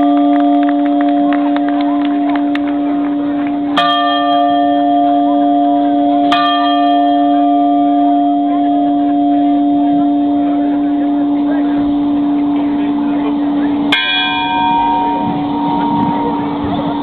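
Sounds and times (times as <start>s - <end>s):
church bell tolling: 0.0s - 17.0s
steady low hum: 0.0s - 17.0s.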